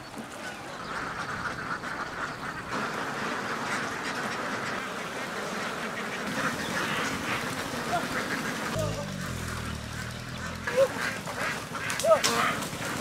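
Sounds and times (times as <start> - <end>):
flock of ducks quacking: 0.1 - 13.0.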